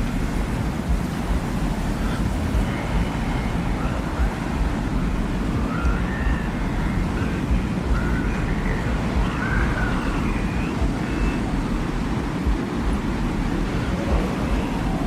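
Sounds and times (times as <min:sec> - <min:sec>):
deep wind noise: 0:00.0 - 0:15.0
faint whistling glides: 0:00.0 - 0:15.0.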